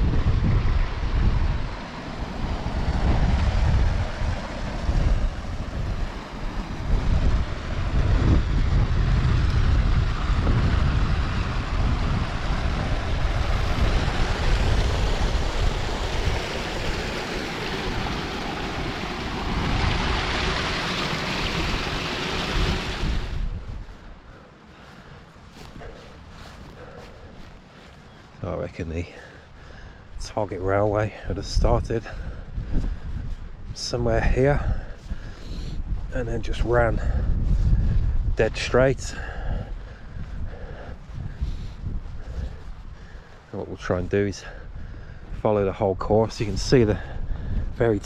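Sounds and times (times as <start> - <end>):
gusty wind buffeting microphone: 0.0 - 48.0.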